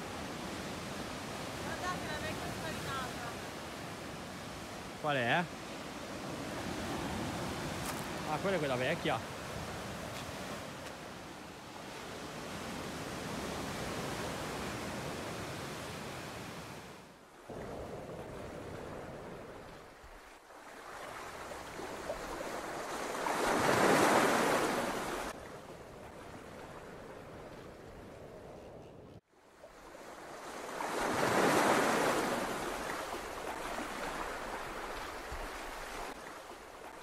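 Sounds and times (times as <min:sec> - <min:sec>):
surf washing onto beach: 0:00.0 - 0:28.1, 0:29.9 - 0:37.0.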